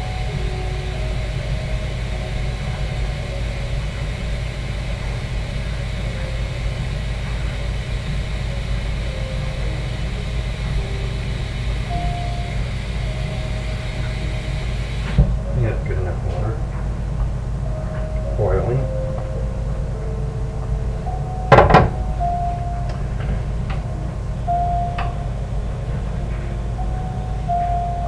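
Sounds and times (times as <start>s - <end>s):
even hiss: 0.0s - 28.0s
faint classical piano music: 0.0s - 28.0s
steady low hum: 0.0s - 28.0s.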